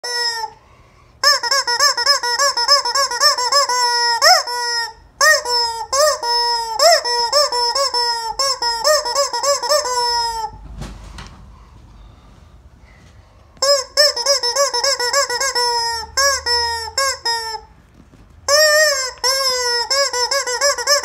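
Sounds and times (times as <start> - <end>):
rubber squeaky toy squeaking: 0.0 - 0.6, 1.2 - 10.6, 13.6 - 21.0.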